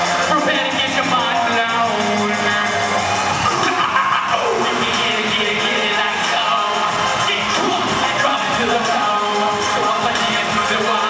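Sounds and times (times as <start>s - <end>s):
live music through loudspeakers: 0.0s - 11.0s
man singing: 0.0s - 11.0s.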